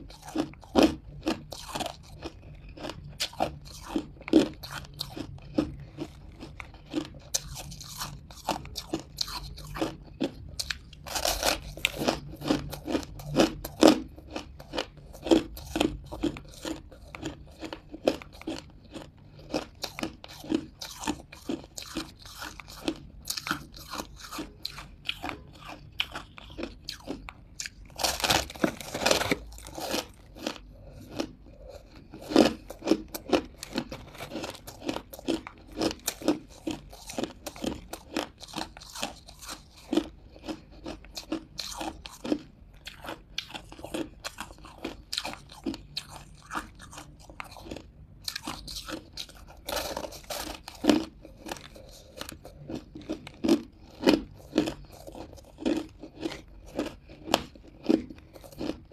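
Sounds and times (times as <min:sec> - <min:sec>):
person crunching ice: 0:00.1 - 0:58.8.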